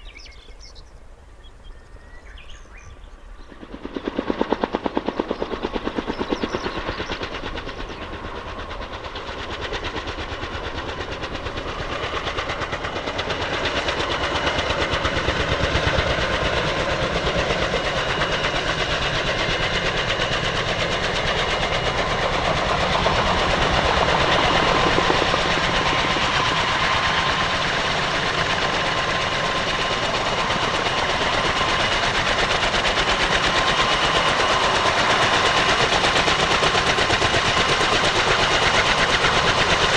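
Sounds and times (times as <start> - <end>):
turbine engine whine: 0.0 - 39.9
helicopter rotors beating: 3.0 - 39.9.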